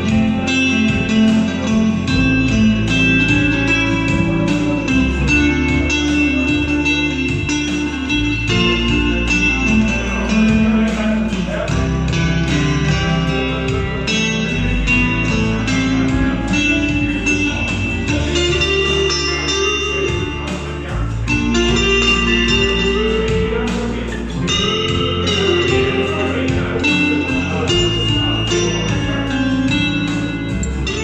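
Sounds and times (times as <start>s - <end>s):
electric guitar with bent notes: 0.0s - 31.0s.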